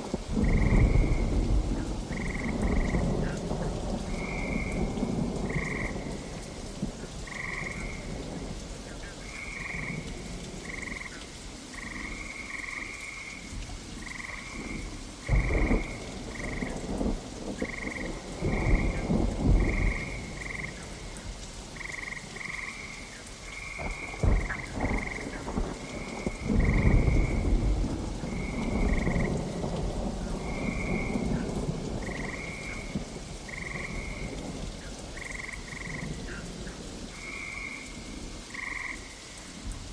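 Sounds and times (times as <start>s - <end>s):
thunder rumbling: 0.0s - 11.0s, 14.0s - 37.3s
frogs croaking: 0.0s - 39.7s
steady rain: 0.0s - 39.9s.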